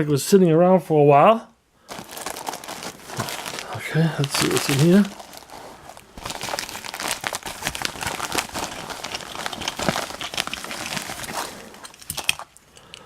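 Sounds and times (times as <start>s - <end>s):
packing material crinkling: 1.9s - 12.8s.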